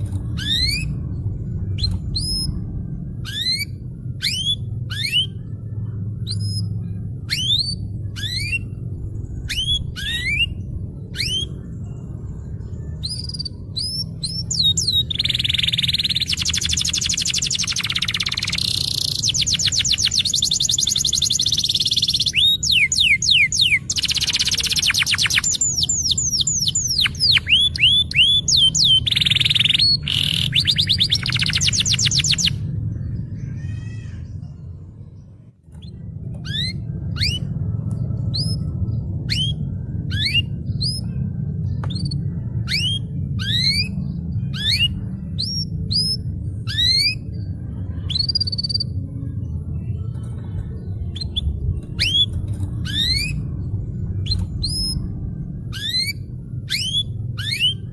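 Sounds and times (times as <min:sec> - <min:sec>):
canary singing trills: 0:00.0 - 0:57.9
low background hum: 0:00.0 - 0:57.9.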